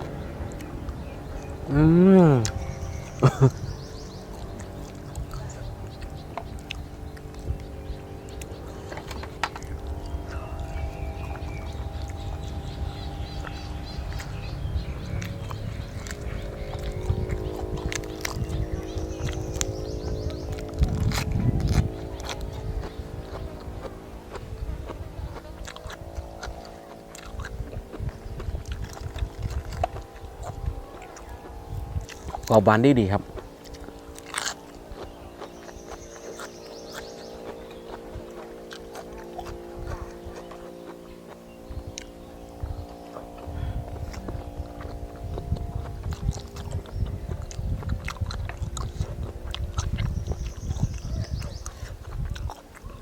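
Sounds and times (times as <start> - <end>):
person chewing crunchy food: 0.0 - 53.0
steady hum: 0.0 - 53.0.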